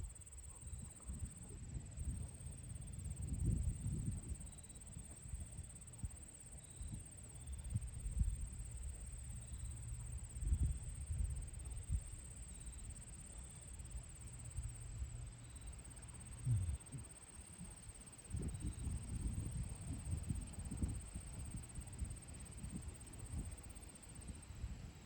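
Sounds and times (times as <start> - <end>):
wind rumble on microphone: 0.0 - 13.1, 14.2 - 25.0
high-pitched insect trill: 0.1 - 25.0.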